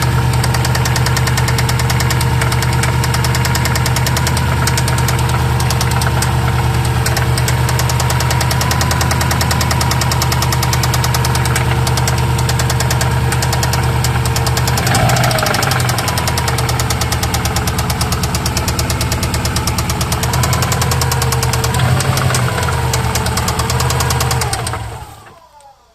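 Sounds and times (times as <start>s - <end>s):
car engine knocking: 0.0s - 25.4s.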